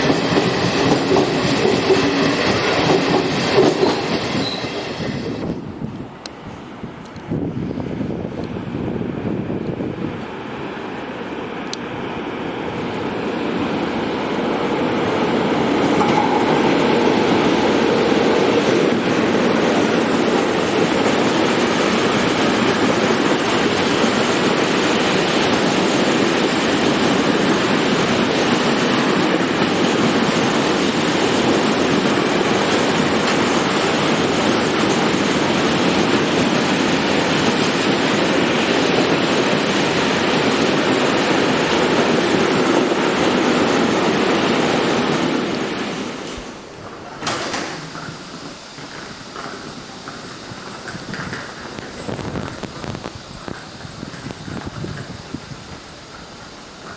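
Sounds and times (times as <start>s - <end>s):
train wheels on rails: 0.0s - 56.9s.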